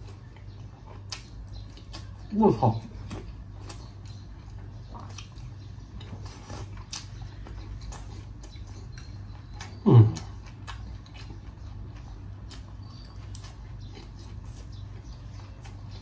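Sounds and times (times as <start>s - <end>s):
chewing clicks: 0.0s - 16.0s
low steady hum: 0.0s - 16.0s.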